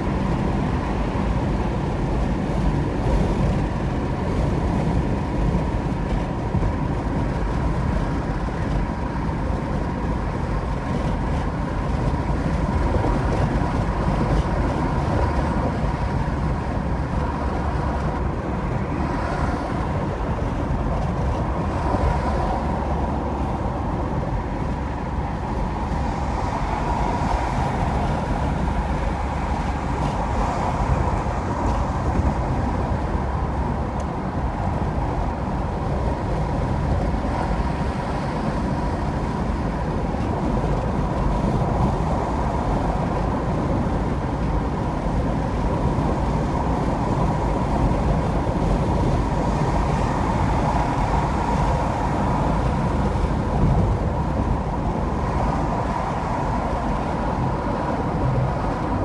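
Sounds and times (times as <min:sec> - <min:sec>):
engine hum: 0:00.0 - 0:59.0
tyre and road noise: 0:00.0 - 0:59.0.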